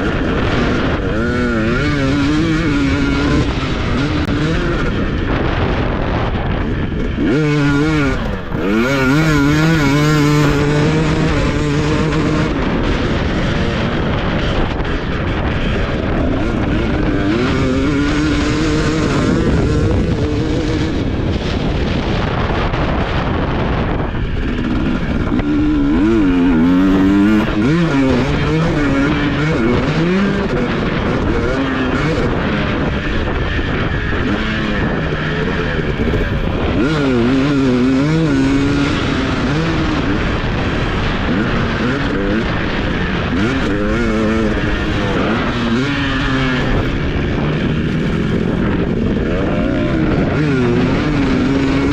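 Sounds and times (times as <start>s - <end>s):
motocross bike engine revving: 0.0s - 51.9s
steady rushing noise: 0.0s - 51.9s.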